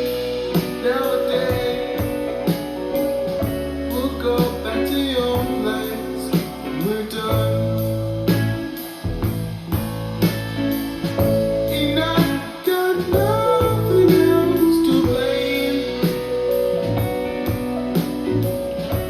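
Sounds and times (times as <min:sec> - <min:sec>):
guitar: 0:00.0 - 0:19.0
pop song: 0:00.0 - 0:19.0
sliding melodic line: 0:00.0 - 0:19.0
steady drum beat: 0:00.0 - 0:19.0.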